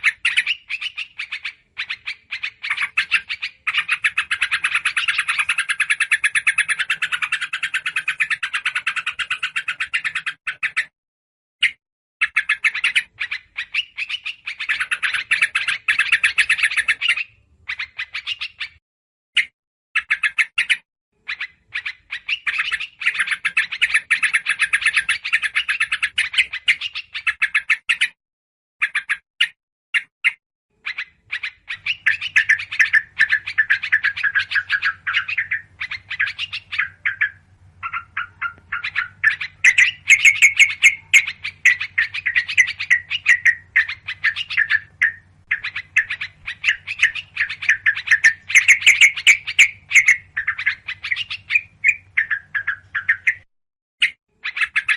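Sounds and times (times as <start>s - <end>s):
small songbirds chattering: 0.0s - 10.9s, 11.6s - 18.8s, 19.4s - 28.2s, 28.8s - 54.9s.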